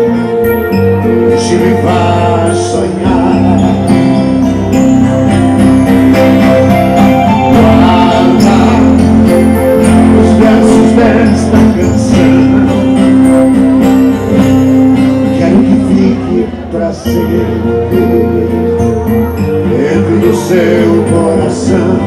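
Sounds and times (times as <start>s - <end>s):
acoustic guitars playing: 0.0s - 22.0s
keyboard playing: 0.0s - 22.0s.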